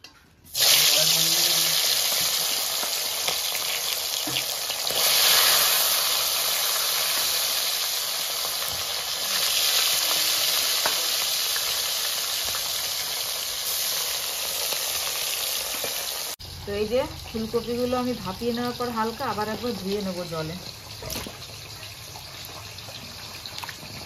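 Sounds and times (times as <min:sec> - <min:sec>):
fish sizzling in hot oil: 0:00.5 - 0:24.0.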